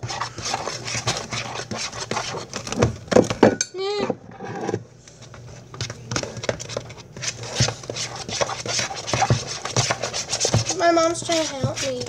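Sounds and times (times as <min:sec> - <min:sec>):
spoon stirring batter in bowl: 0:00.0 - 0:03.4, 0:04.6 - 0:12.0.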